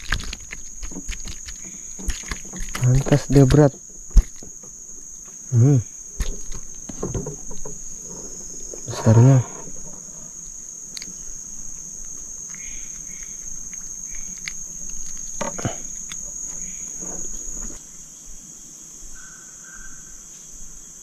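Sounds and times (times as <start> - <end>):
handling rustle: 0.0 - 5.5, 6.1 - 17.8
insects chirring: 0.0 - 21.0.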